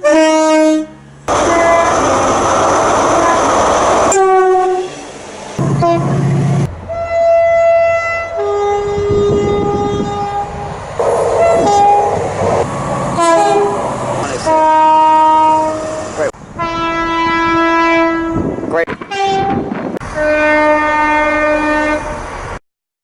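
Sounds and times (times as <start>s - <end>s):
two-tone train horn blasts: 0.0s - 2.0s, 3.1s - 12.2s, 13.2s - 13.8s, 14.4s - 22.3s
train rushing past: 0.4s - 22.6s.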